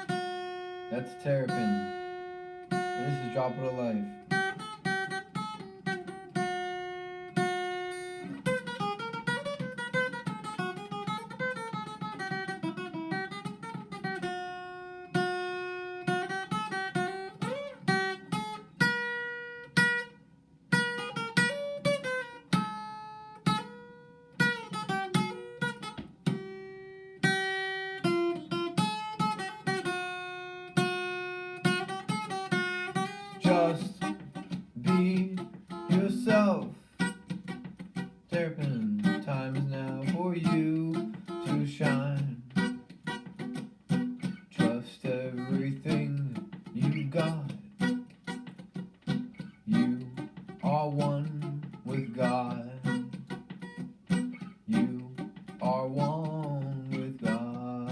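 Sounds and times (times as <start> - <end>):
acoustic guitar: 0.0 - 57.9.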